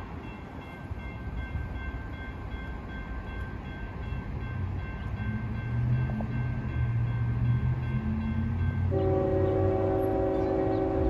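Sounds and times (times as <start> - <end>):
low rumble of approaching train: 0.0 - 11.0
railroad crossing bell ringing: 0.0 - 11.0.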